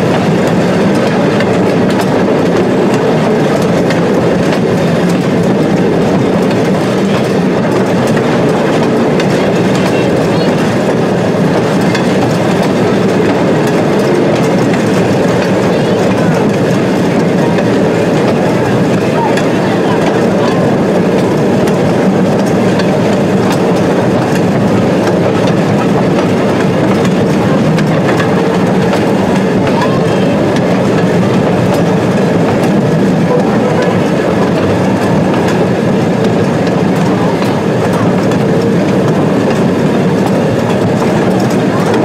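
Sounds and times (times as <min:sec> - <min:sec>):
train engine and wheels rumbling: 0:00.0 - 0:42.0
wheel clicks over rail joints: 0:00.0 - 0:42.0.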